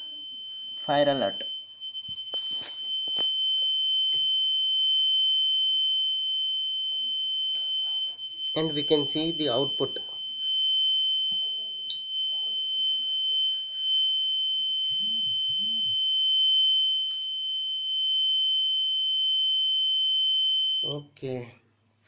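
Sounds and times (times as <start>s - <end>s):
high-pitched alarm buzzer: 0.0s - 20.9s.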